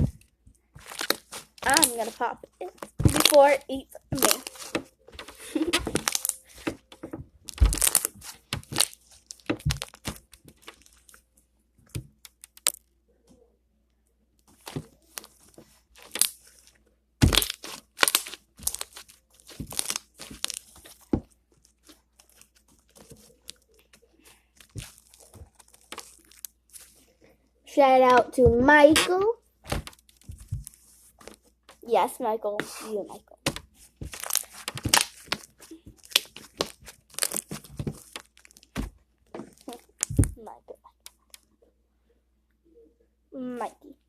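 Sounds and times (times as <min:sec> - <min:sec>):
slime popping and crackling: 0:00.0 - 0:11.2, 0:11.9 - 0:12.9, 0:14.6 - 0:16.6, 0:17.2 - 0:27.0, 0:28.0 - 0:31.9, 0:32.6 - 0:41.4.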